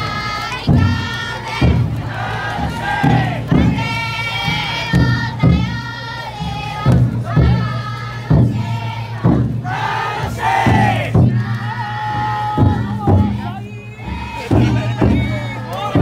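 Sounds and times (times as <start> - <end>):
crowd chanting in unison: 0.0 - 16.0
drum deep thuds: 0.0 - 16.0.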